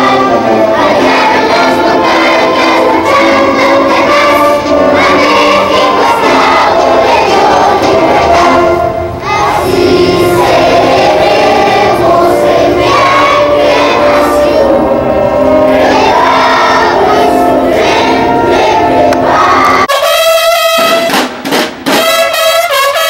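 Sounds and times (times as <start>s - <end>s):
children singing an anthem: 0.0s - 19.9s.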